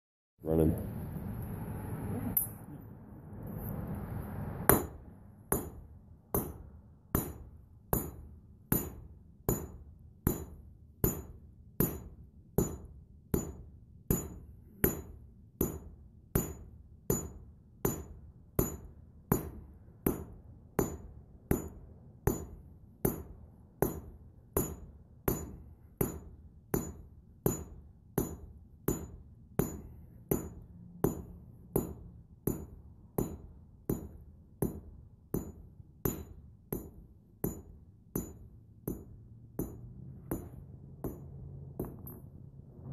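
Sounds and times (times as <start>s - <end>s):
hammer ringing on steel rod: 4.7s - 42.2s.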